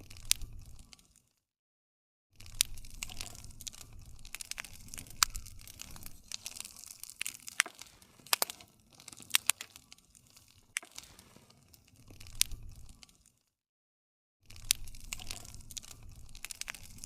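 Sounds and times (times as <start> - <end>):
campfire crackling and popping: 0.0 - 1.3, 2.4 - 13.5, 14.5 - 17.0.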